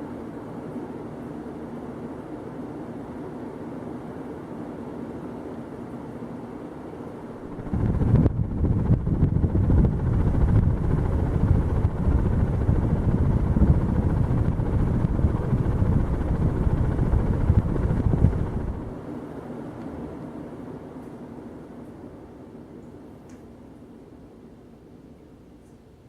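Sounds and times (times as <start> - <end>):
fan air buffeting microphone: 0.0 - 24.6.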